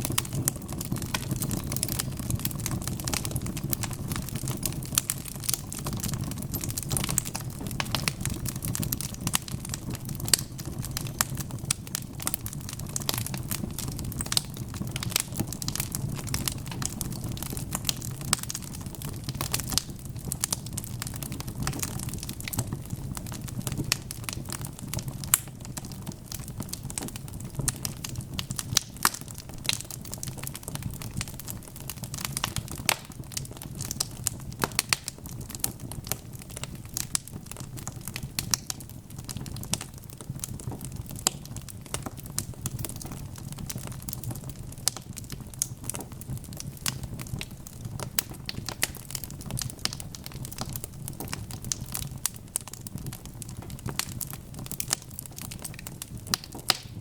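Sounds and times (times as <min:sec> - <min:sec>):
low rumble of burning: 0:00.0 - 0:57.0
wood fire snaps and pops: 0:00.0 - 0:57.0.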